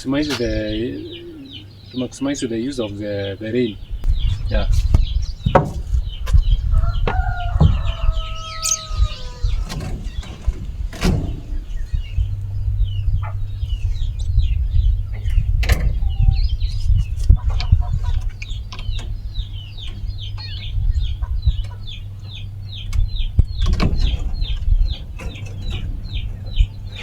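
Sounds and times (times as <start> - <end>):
bird chirping: 0.0 - 27.0
low rumble: 3.8 - 27.0.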